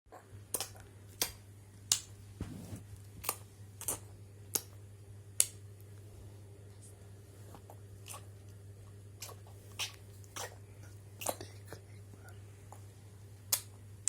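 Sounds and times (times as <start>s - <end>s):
low steady hum: 0.1s - 14.0s.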